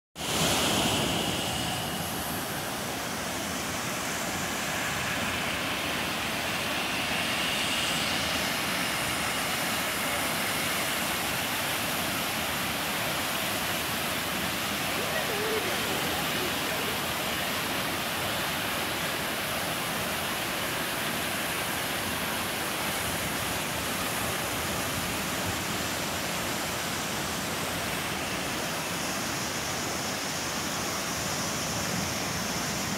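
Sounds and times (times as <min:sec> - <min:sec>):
waterfall rushing: 0:00.2 - 0:32.9.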